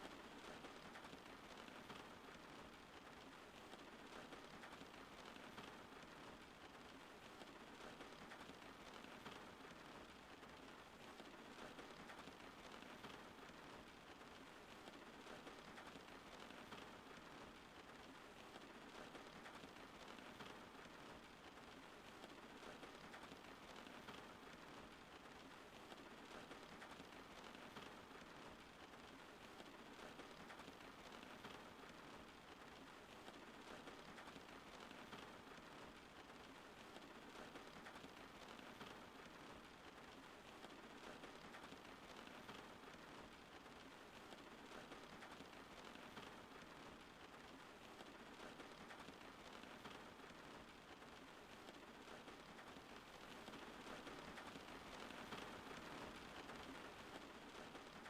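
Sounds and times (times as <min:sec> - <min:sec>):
faint rainfall: 0:00.0 - 0:58.0.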